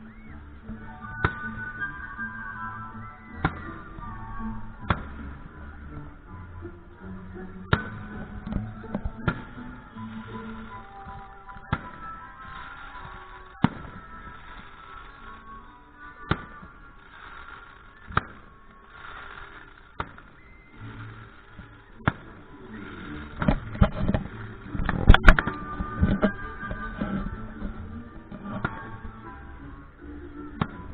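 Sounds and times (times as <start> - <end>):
fireworks crackles: 0.0 - 30.9
fireworks bangs: 0.1 - 29.8.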